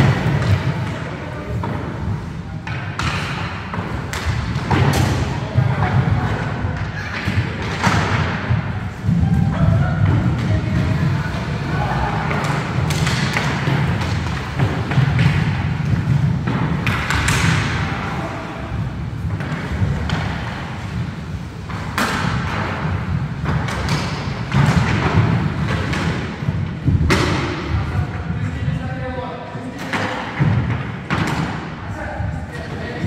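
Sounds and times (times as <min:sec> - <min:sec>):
hockey sticks clacking: 0:00.0 - 0:28.0, 0:29.6 - 0:31.8
skate wheels rumbling on wooden floor: 0:00.0 - 0:31.7.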